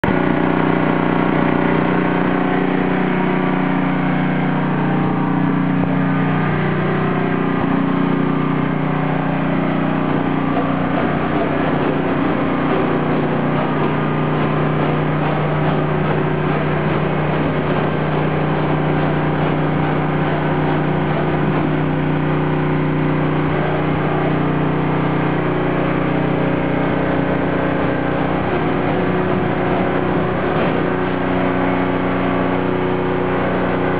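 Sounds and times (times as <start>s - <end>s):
generator engine droning: 0.0s - 33.9s.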